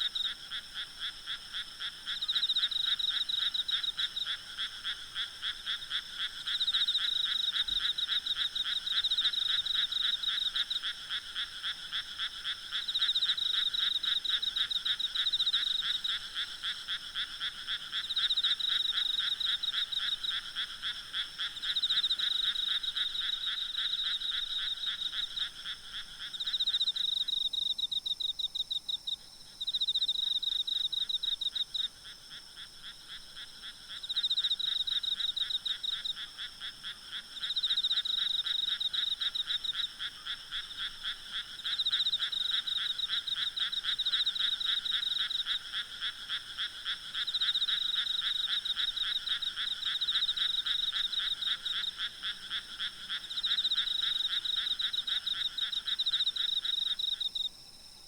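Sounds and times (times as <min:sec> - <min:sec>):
frogs trilling: 0:00.0 - 0:57.5.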